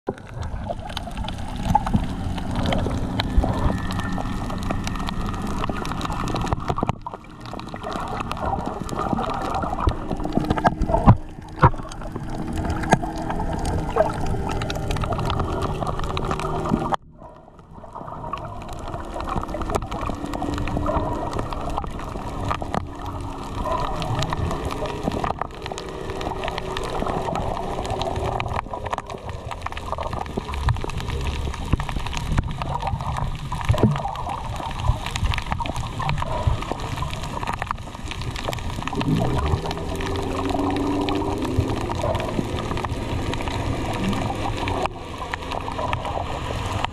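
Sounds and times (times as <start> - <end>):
underwater clicks and pops: 0.1 - 17.4, 18.0 - 46.9
muffled underwater gurgling: 0.1 - 46.9.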